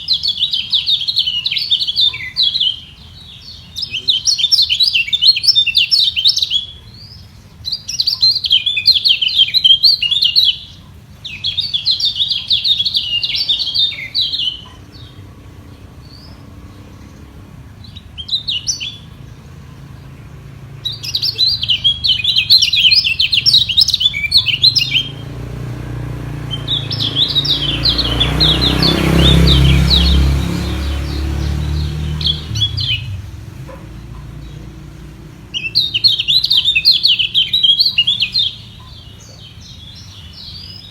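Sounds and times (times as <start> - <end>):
songbirds chittering: 0.0 - 40.9.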